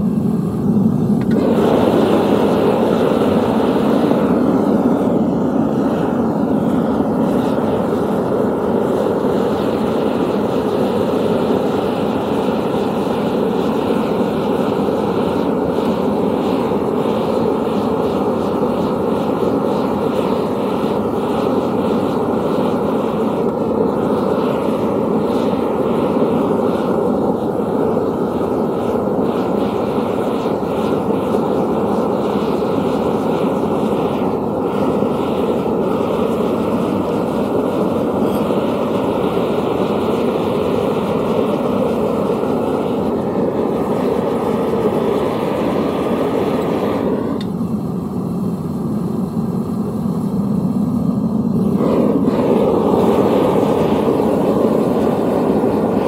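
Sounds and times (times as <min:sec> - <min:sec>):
furnace burner rushing: 0:00.0 - 0:56.0.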